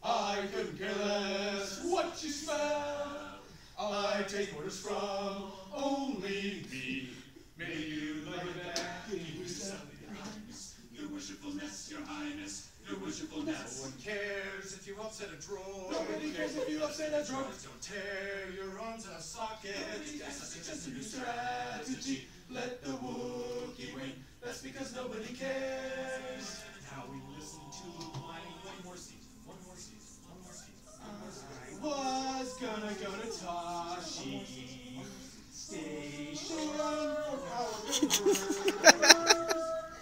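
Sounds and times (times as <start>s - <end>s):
men singing a cappella: 0.0s - 40.0s.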